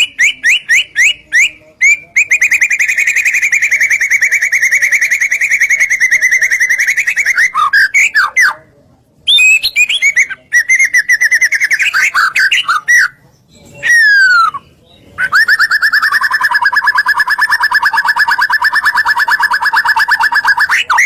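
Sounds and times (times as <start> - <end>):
bird singing: 0.0 - 8.6, 9.3 - 21.0.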